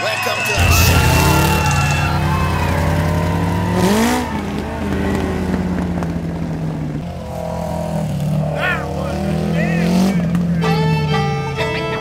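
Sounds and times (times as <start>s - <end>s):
lawn tractor engines running: 0.5s - 12.0s.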